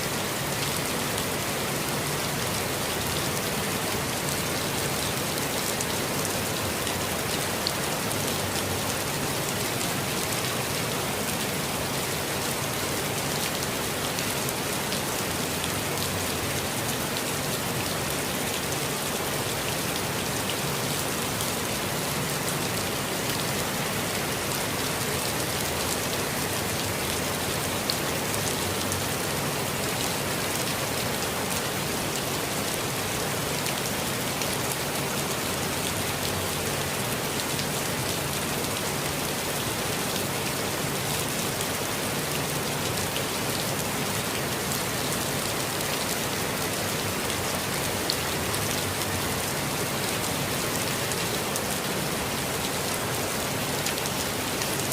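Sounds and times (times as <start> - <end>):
rain pattering on leaves: 0.0 - 54.9.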